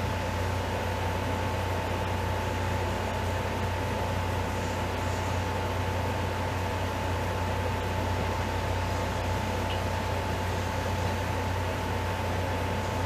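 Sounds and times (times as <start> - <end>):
fan humming: 0.0 - 13.0
thin constant whine: 0.0 - 13.0.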